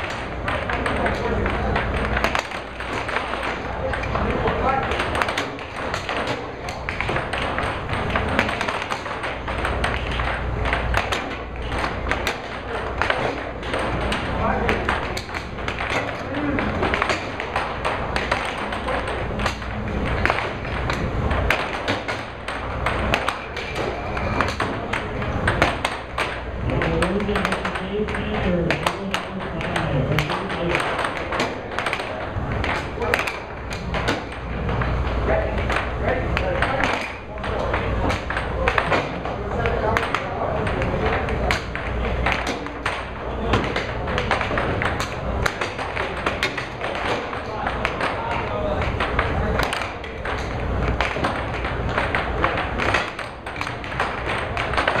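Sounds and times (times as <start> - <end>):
air hockey puck clacking: 0.0 - 55.0.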